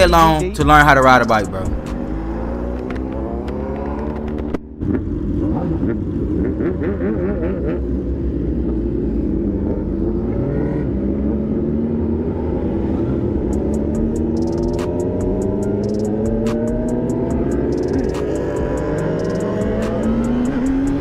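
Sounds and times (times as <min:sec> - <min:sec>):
motorcycle engine revving: 0:01.2 - 0:21.0.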